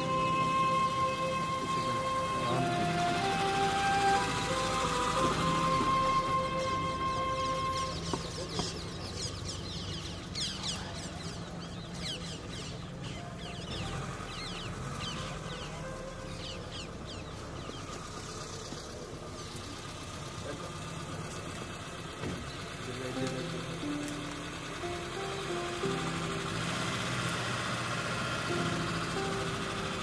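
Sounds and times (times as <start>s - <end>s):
birds chirping: 0.0s - 26.6s
low engine hum: 0.0s - 30.0s.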